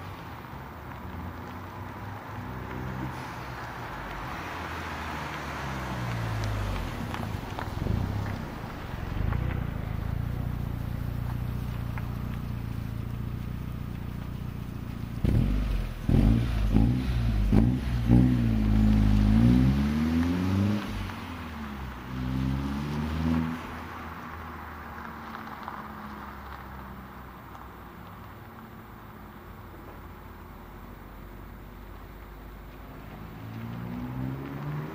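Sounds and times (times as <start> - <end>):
car engine running and revving: 0.0 - 34.9.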